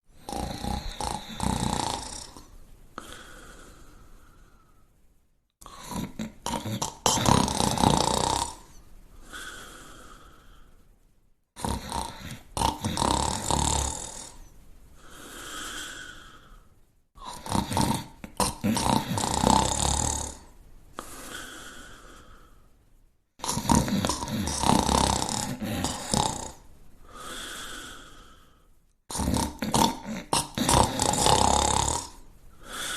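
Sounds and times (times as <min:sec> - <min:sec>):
person snoring: 0:00.1 - 0:04.8, 0:05.6 - 0:10.8, 0:11.6 - 0:22.6, 0:23.4 - 0:32.9.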